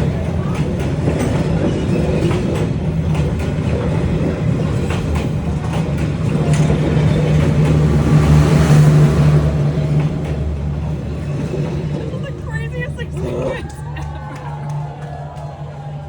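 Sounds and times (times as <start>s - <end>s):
clacks over the rails: 0.0s - 16.0s
train wheels rumbling on track: 0.0s - 16.0s.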